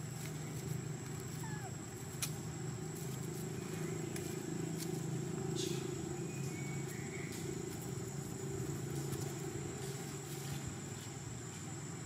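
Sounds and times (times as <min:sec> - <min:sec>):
low motor-like hum: 0:00.0 - 0:12.0
rustling in dry leaves: 0:00.0 - 0:12.0.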